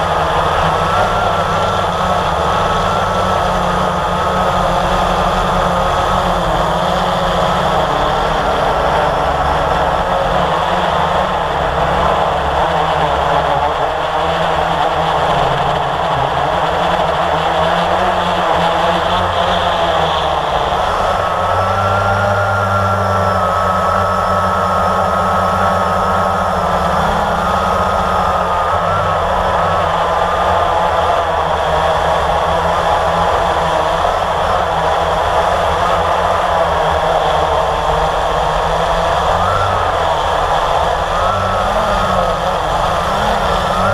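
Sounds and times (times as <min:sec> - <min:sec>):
quadcopter motors whining: 0:00.0 - 0:43.9.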